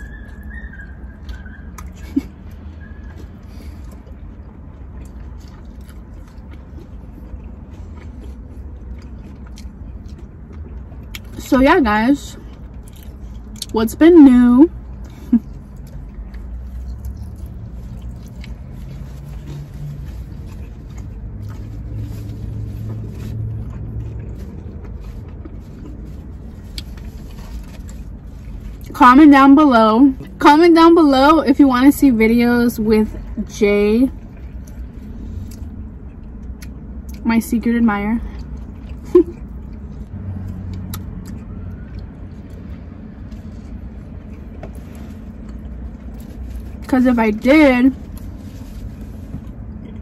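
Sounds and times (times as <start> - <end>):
chewing sounds: 0.0 - 28.9, 33.0 - 46.9, 47.6 - 50.0
vehicle rumble inside car: 0.0 - 50.0.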